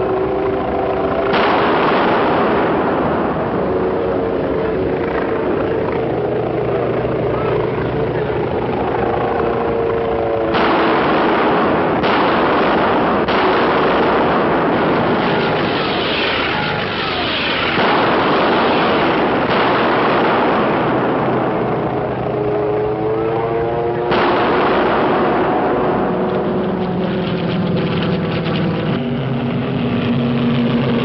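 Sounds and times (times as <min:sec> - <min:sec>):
warplane engines diving: 0:00.0 - 0:31.0.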